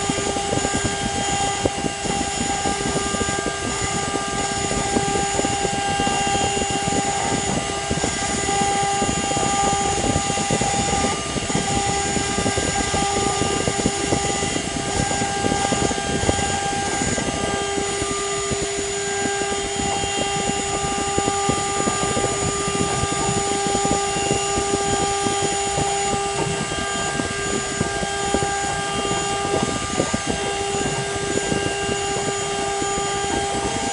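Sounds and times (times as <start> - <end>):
bit cutting circuit board: 0.0 - 33.9
spindle whining: 0.0 - 33.9.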